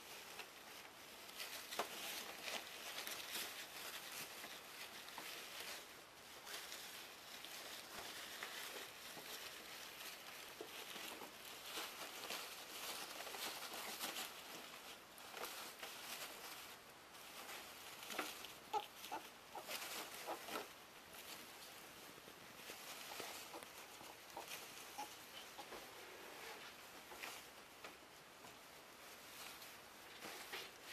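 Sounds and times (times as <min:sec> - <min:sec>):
ferrets rustling paper bedding: 0:00.0 - 0:30.9.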